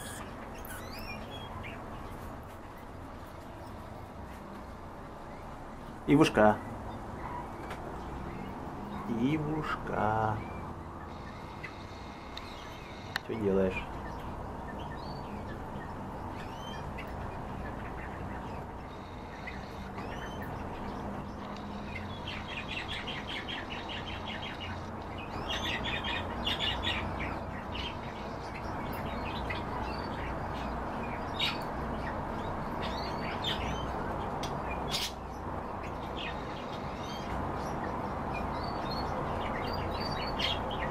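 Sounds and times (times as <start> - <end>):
cage birds chirping: 0.0 - 40.9.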